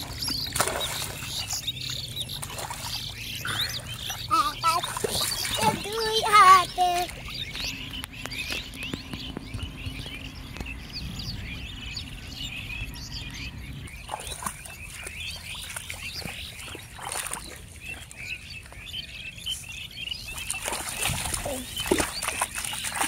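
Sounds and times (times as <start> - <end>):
splashing through shallow water: 0.0 - 10.1, 13.8 - 23.0
small birds chirping: 0.0 - 23.0.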